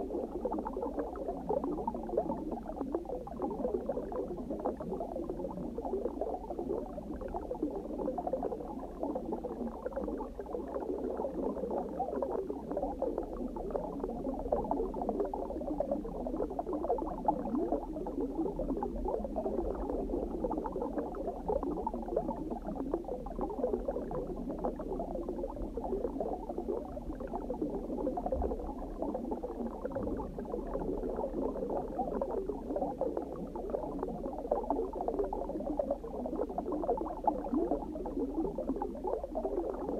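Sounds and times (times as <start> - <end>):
low underwater rumble: 0.0 - 39.9
underwater bubbling: 0.0 - 39.9.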